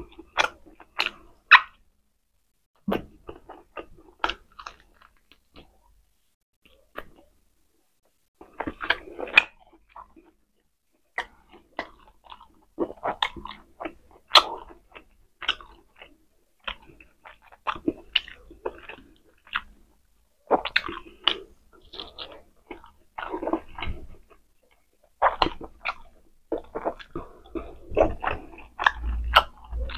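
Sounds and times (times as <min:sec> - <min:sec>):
person chewing with wet smacks: 0:00.0 - 0:01.8, 0:02.8 - 0:06.0, 0:06.6 - 0:07.4, 0:08.4 - 0:29.9.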